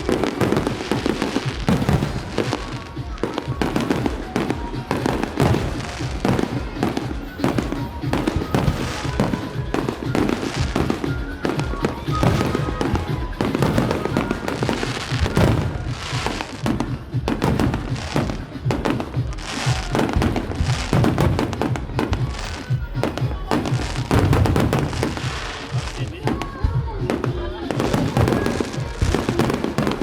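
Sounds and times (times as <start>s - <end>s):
fireworks bangs and crackling: 0.0s - 30.0s
music playing: 0.0s - 30.0s.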